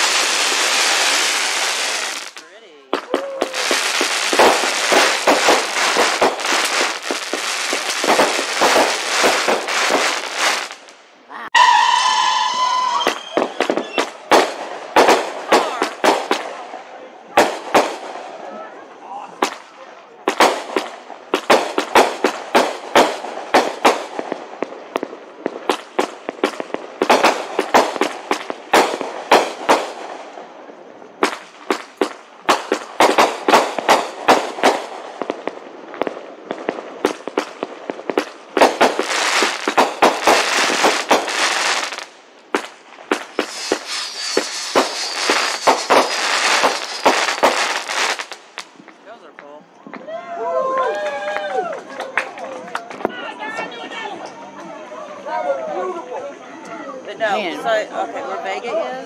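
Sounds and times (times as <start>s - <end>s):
fireworks bangs: 0.0s - 50.2s
fireworks dense crackling: 0.0s - 59.0s.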